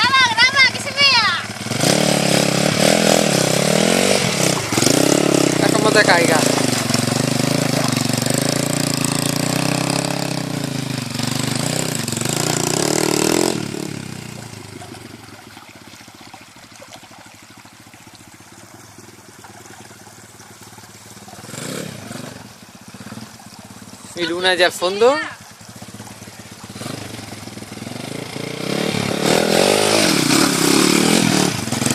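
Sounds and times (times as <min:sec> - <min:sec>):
pit bike engine revving: 0:00.0 - 0:15.2, 0:19.0 - 0:31.9
distant engine: 0:00.0 - 0:31.9.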